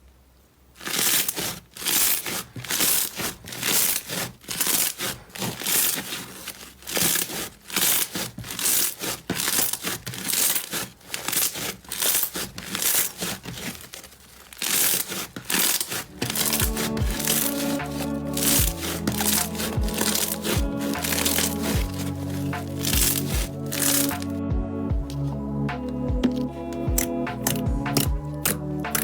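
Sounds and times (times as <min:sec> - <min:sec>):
slime squelching: 0:00.7 - 0:29.0.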